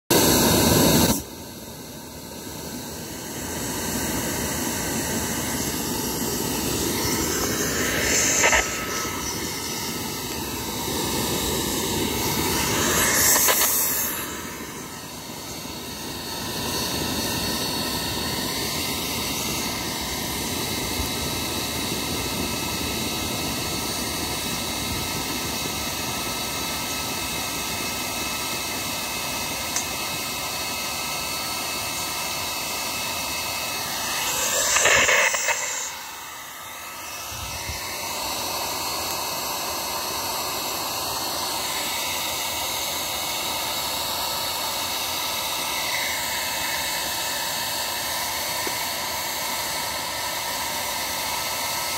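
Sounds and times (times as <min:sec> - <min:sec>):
fan blowing air: 0:00.1 - 0:51.9.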